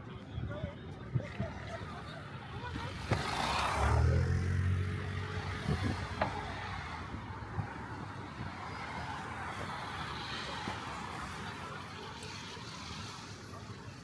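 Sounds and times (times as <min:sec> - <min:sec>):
passing cars traffic noise: 0:00.9 - 0:14.0.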